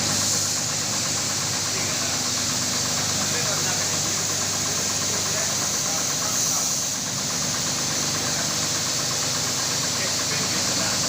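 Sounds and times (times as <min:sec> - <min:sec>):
fast mechanical ticking: 0:00.0 - 0:11.0
machine humming: 0:00.0 - 0:11.0.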